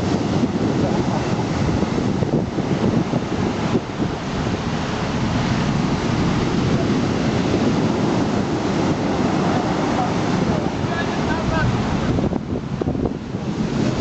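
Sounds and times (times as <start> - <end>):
waves surging: 0.0 - 14.0
wind buffeting microphone: 0.0 - 14.0.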